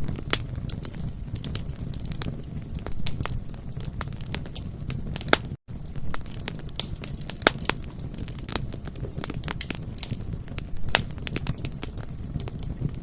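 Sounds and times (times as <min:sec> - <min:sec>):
burning wood popping and snapping: 0:00.0 - 0:13.0
low rumble of flames: 0:00.0 - 0:13.0.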